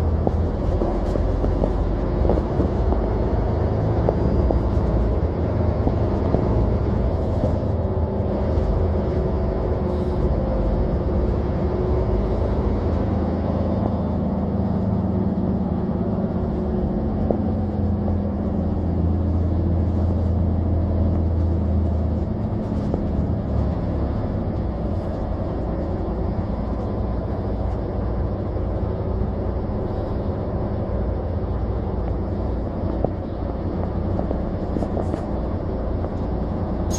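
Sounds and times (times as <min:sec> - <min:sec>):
bus engine drone: 0:00.0 - 0:36.9.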